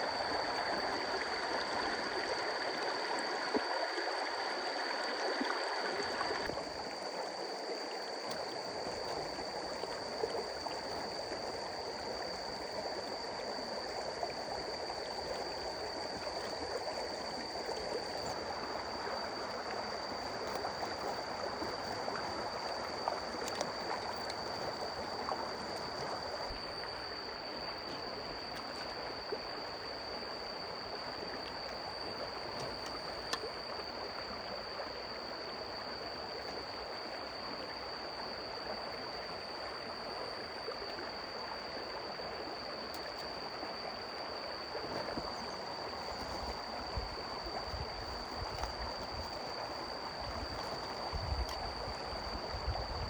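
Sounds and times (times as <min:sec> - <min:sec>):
stream water rushing: 0:00.0 - 0:37.0, 0:39.1 - 0:53.0.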